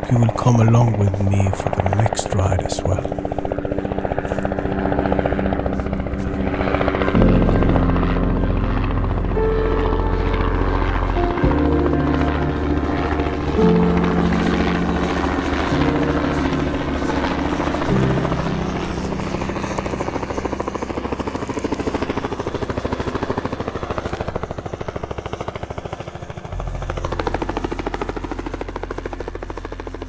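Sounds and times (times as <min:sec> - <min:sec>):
helicopter rotor chopping: 0:00.0 - 0:30.0
low steady drone: 0:00.0 - 0:30.0
held music chords: 0:02.5 - 0:30.0.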